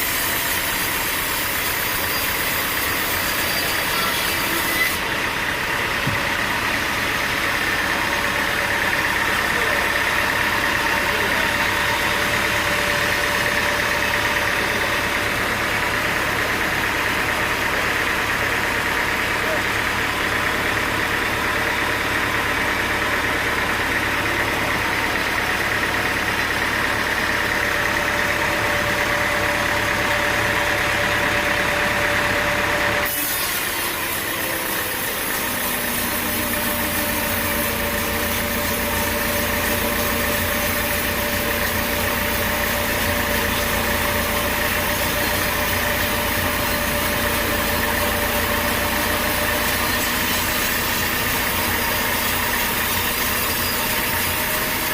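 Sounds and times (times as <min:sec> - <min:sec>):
sawmill engine rumble: 0:00.0 - 0:54.9.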